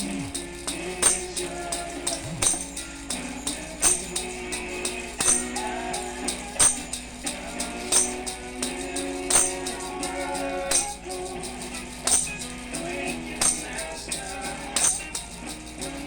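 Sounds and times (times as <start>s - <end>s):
tambourine jingling: 0.0s - 16.0s.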